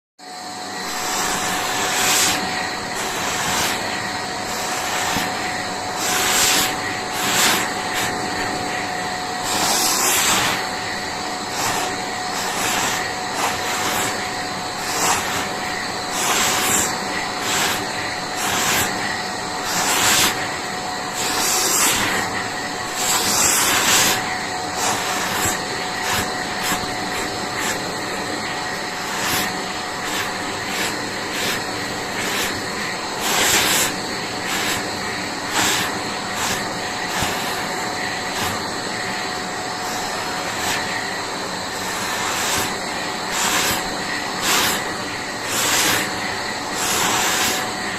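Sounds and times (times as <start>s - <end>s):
vacuum cleaner suction surging: 0.2s - 47.9s.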